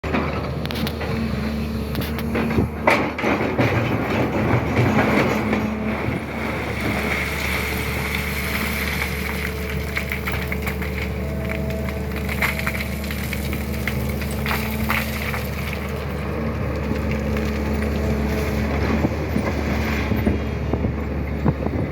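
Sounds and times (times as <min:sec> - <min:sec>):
clattering and scraping: 0:00.0 - 0:20.9
excavator diesel engine running: 0:00.0 - 0:21.9.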